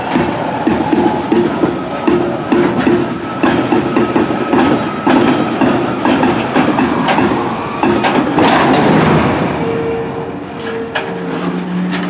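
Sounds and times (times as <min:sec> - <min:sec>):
train rumble: 0:00.0 - 0:12.0
train wheels clacking on rail joints: 0:00.0 - 0:12.0.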